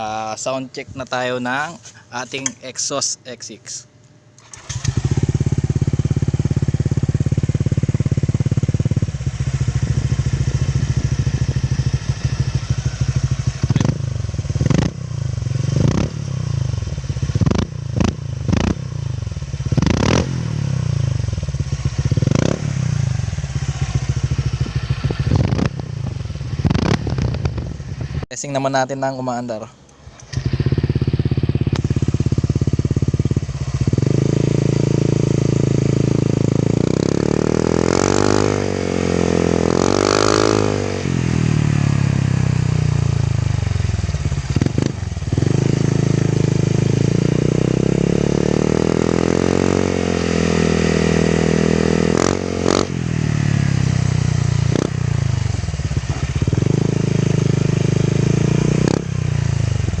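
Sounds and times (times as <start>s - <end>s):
scooter engine idling and revving: 4.4s - 28.3s, 30.0s - 60.0s.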